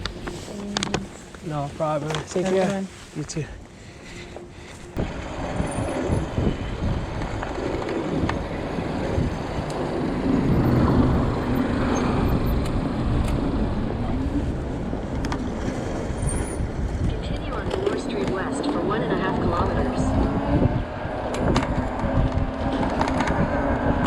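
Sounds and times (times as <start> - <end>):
vehicles passing on street: 0.0 - 24.0.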